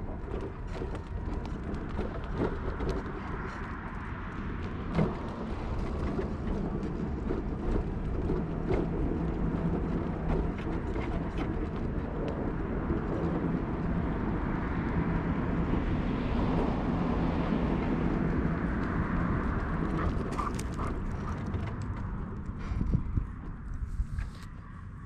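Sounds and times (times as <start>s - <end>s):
low traffic rumble: 0.0s - 25.0s
passing vehicle hum: 0.0s - 25.0s.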